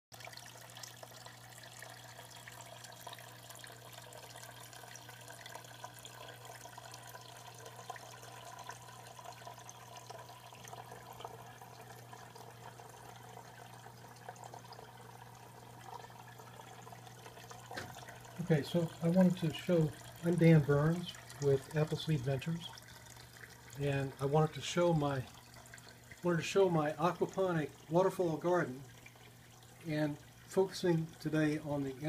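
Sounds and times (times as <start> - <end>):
water trickling and dripping: 0.1 - 32.0.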